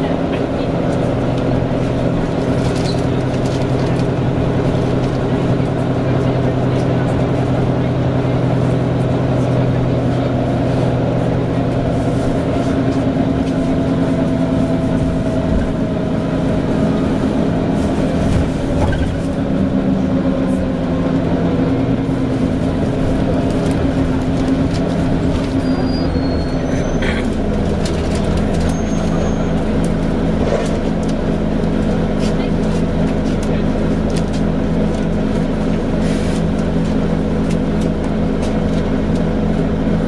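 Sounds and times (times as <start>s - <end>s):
bus engine humming: 0.0s - 40.0s.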